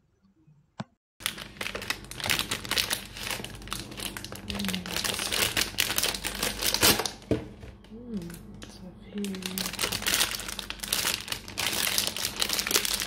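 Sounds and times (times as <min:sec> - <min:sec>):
plastic wrapping crinkling: 0:01.2 - 0:13.0.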